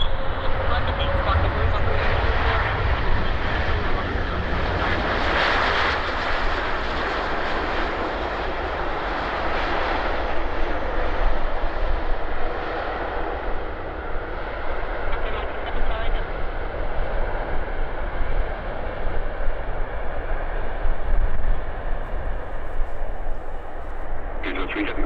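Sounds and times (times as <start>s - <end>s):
jet engines in reverse thrust: 0.0s - 25.0s.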